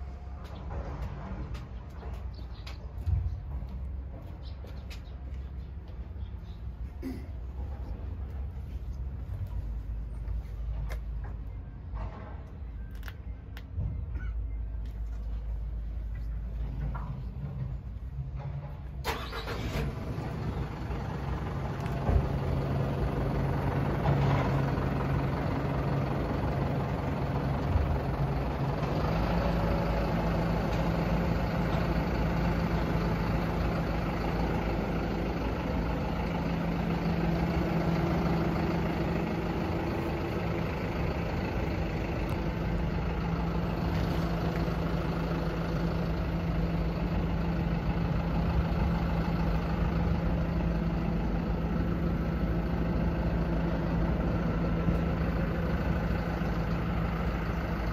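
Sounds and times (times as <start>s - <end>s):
diesel truck engine idling: 0.0s - 57.9s.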